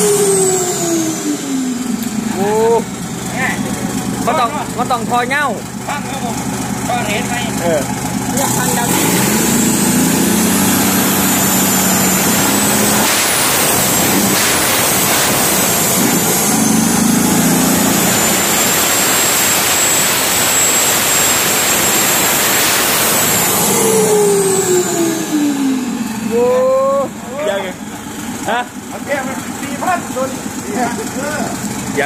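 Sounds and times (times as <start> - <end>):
diesel truck engine revving: 0.0 - 32.0.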